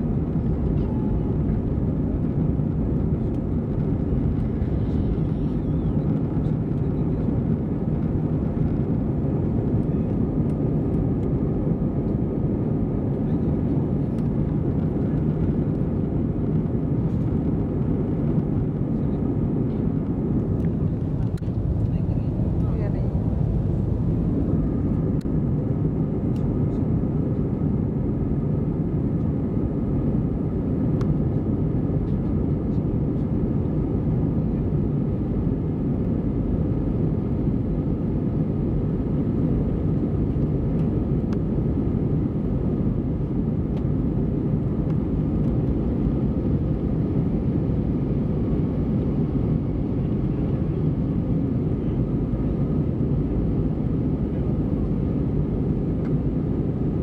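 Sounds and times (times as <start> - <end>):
jet airliner cabin rumble: 0.0 - 57.0.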